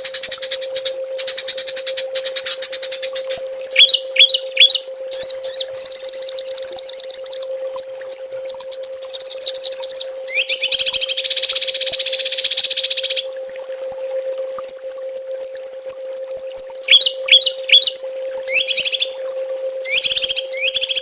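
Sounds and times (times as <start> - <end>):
songbirds trilling: 0.0 - 13.3, 14.7 - 19.2, 19.8 - 21.0
faint humming tone: 0.0 - 21.0.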